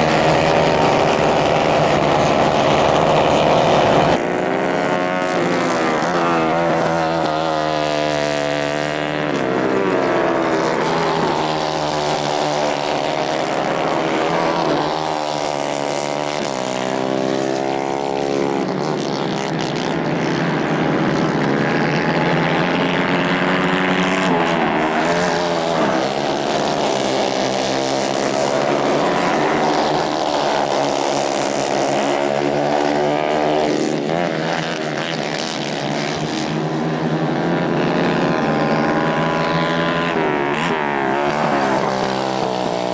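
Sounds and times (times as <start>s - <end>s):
racing kart engines: 0.0s - 42.9s.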